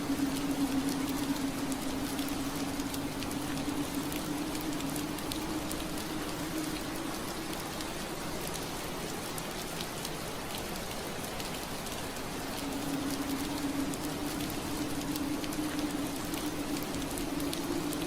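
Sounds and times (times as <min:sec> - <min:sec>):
low steady hum: 0:00.0 - 0:09.7, 0:11.4 - 0:18.0
rain on window glass: 0:00.0 - 0:18.0.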